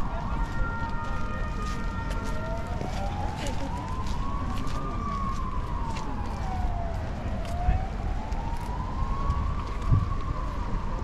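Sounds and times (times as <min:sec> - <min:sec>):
city street rumble: 0:00.0 - 0:11.0
emergency siren wailing: 0:00.0 - 0:11.0.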